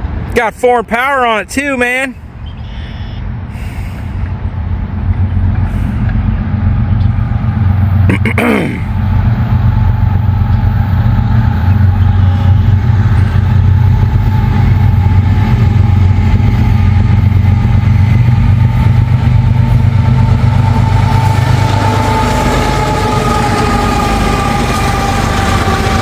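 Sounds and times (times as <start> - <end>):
locomotive low rumble: 2.1 - 26.0.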